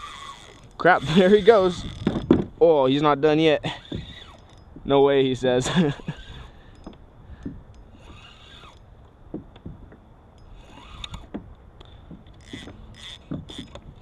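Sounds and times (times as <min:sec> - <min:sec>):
fishing tackle clicks and scrapes: 0:00.0 - 0:02.6, 0:03.6 - 0:14.0.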